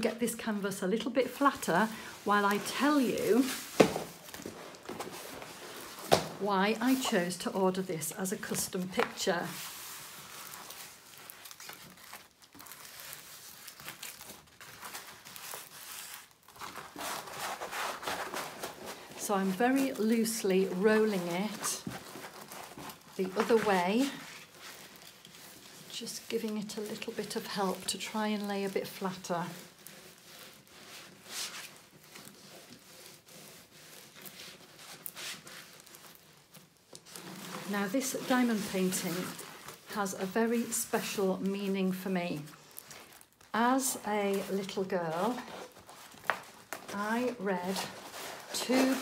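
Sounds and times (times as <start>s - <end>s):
canvas crinkling and rustling: 0.0s - 49.0s.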